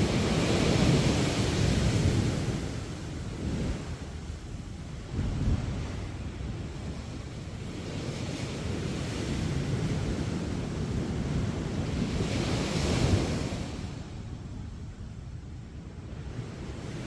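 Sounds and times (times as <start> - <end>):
waves breaking on beach: 0.0 - 14.7
wind rumbling on microphone: 0.0 - 17.0.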